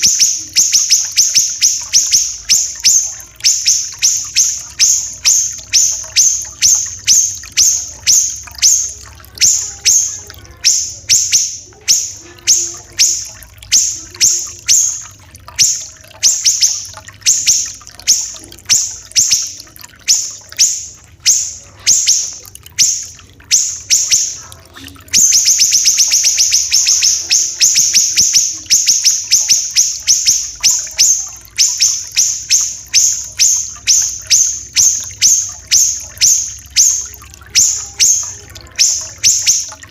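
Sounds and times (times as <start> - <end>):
bird singing sharp high notes: 0.0 - 39.9.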